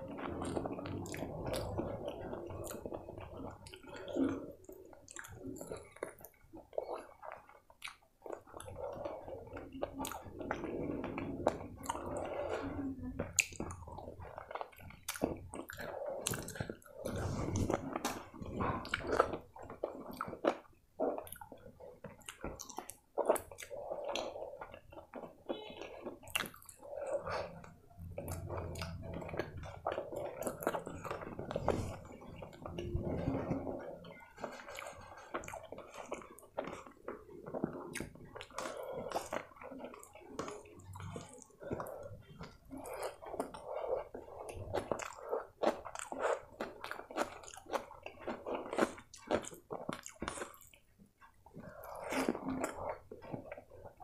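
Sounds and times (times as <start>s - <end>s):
mouth clicks and smacks: 0.0s - 54.0s
wet chewing and squishing: 0.0s - 54.0s.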